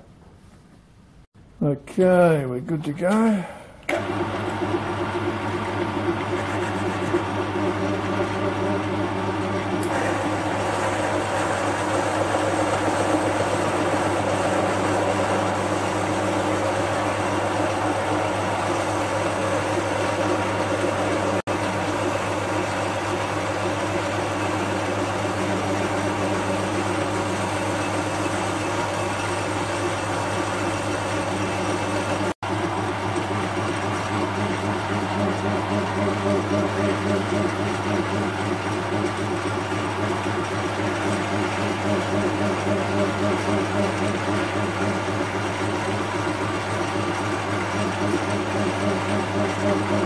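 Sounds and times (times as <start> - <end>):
lathe motor hum: 3.9 - 50.0
lathe cutting metal: 4.0 - 50.0.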